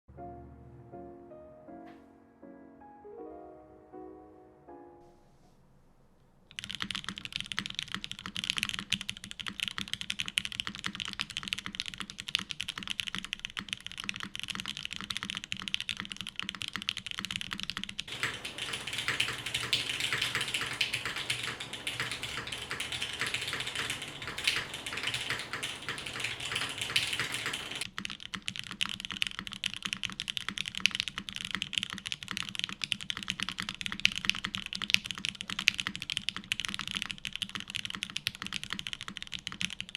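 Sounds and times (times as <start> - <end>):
mechanical keyboard typing: 6.5 - 39.9.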